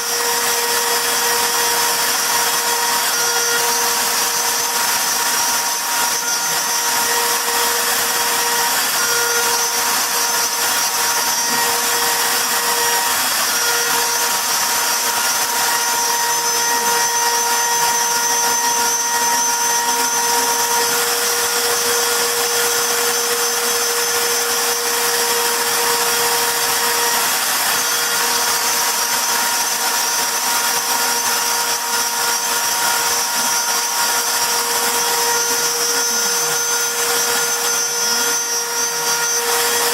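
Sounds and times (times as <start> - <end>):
hiss of cutting wood: 0.0 - 39.9
router spindle whine: 0.0 - 39.9.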